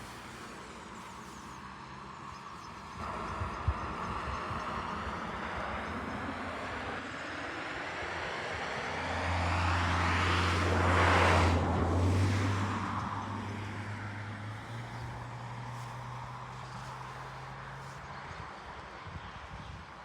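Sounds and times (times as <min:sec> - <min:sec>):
motor vehicle passing by: 0:00.0 - 0:19.9.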